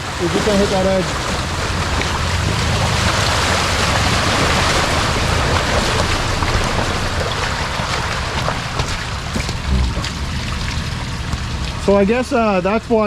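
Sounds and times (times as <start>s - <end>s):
engine rumble: 0.0s - 13.0s
water surging and splashing: 0.0s - 13.0s.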